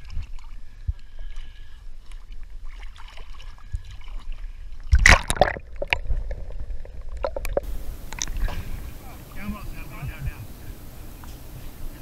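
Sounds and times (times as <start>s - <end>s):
splashing and bubbling: 0.0s - 12.0s.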